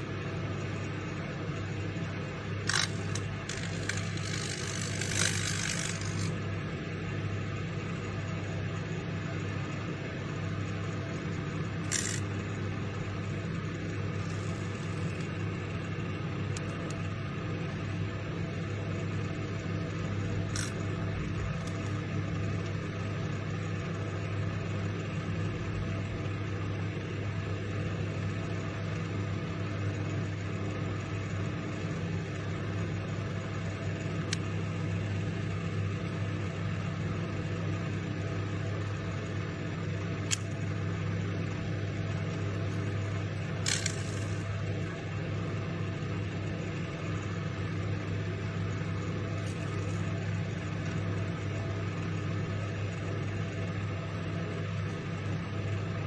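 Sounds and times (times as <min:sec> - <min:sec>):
microwave oven hum: 0:00.0 - 0:56.0.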